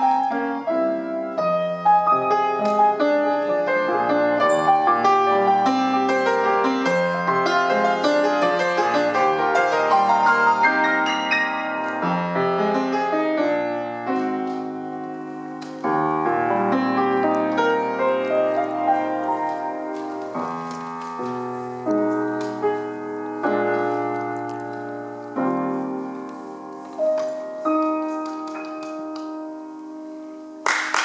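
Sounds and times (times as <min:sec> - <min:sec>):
grand piano chords: 0:00.0 - 0:31.0.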